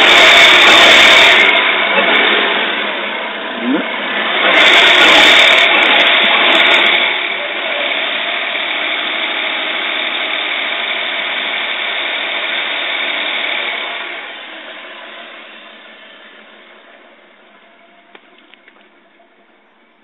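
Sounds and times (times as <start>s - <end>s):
car engine idling roughly: 0.0s - 20.0s.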